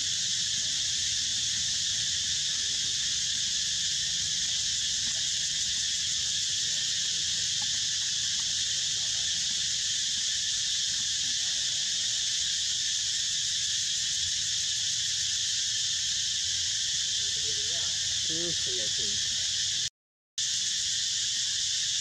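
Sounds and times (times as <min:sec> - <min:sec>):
insect chorus drone: 0:00.0 - 0:22.0.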